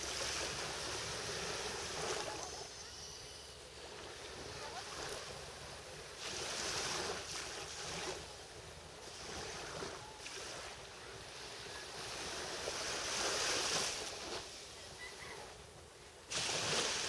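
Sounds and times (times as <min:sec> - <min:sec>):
waves lapping on beach: 0:00.0 - 0:17.0.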